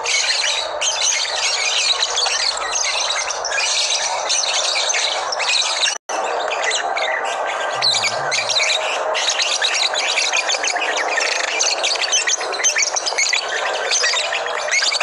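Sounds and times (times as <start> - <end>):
lovebirds chirping and chattering: 0.0 - 15.0.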